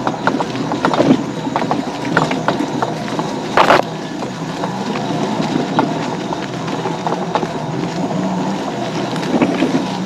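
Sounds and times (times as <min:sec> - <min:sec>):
electric motor hum: 0:00.0 - 0:10.0.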